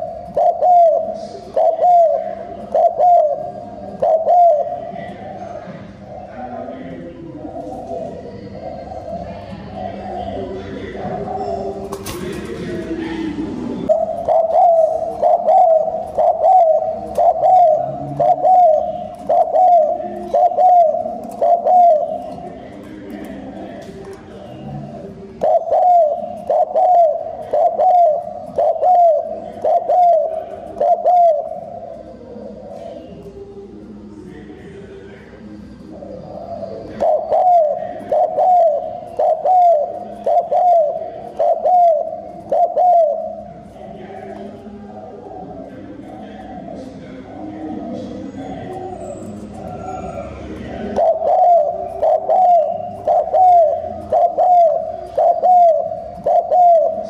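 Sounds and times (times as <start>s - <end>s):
dove cooing: 0.0s - 33.9s, 35.5s - 57.0s.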